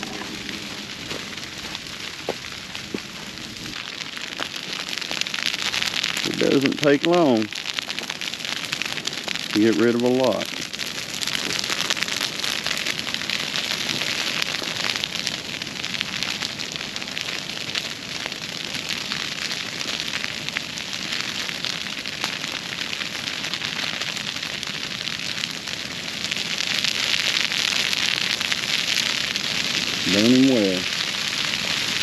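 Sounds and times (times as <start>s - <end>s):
grass fire crackling: 0.0s - 32.0s.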